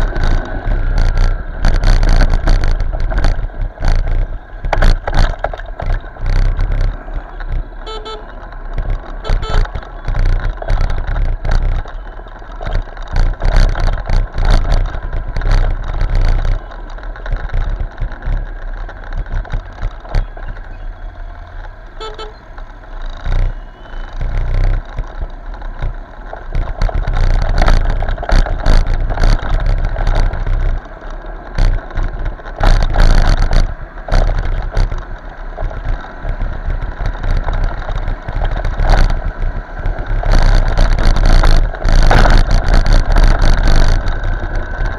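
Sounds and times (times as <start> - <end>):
motorcycle road noise: 0.0 - 44.9.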